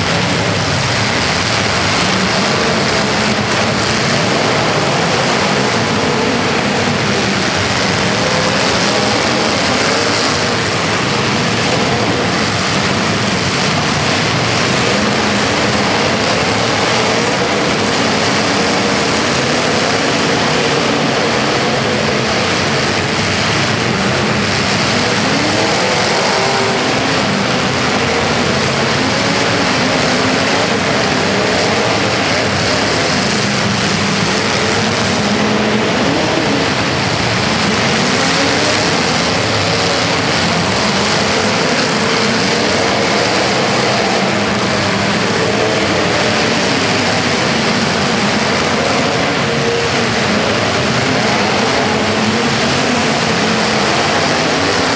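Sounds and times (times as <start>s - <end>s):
vehicle engines revving: 0.0s - 54.9s.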